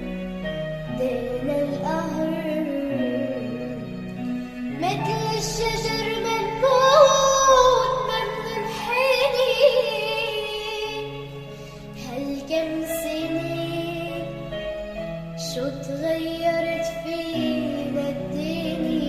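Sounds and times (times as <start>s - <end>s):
instrumental backing track: 0.0s - 19.0s.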